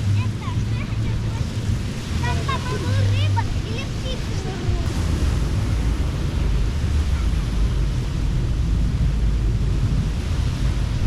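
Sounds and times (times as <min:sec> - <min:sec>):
ocean surf washing: 0:00.0 - 0:11.0
wind buffeting microphone: 0:00.0 - 0:11.0.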